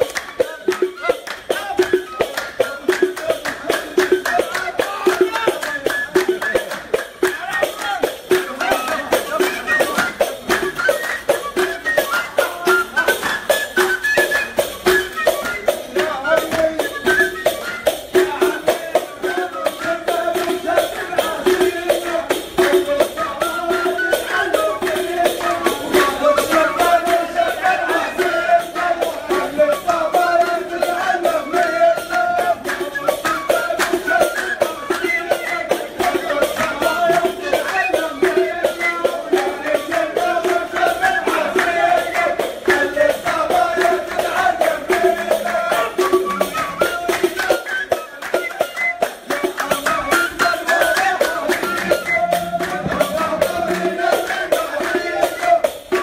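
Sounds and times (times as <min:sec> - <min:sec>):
handclaps: 0:00.0 - 0:56.0
percussion beat: 0:00.0 - 0:56.0
end-blown flutes playing: 0:03.7 - 0:56.0.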